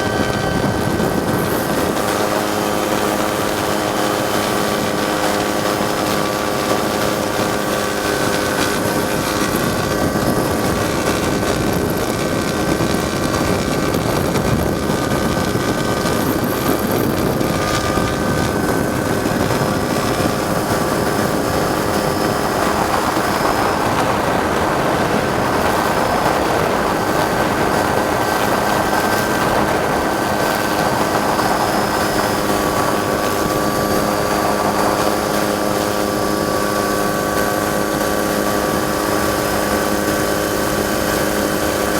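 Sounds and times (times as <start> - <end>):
helicopter drone with whine: 0.0 - 41.9.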